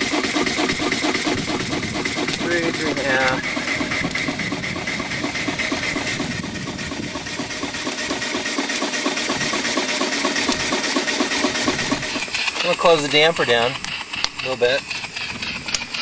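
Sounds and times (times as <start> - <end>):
steam engine exhaust beating: 0.0 - 16.0.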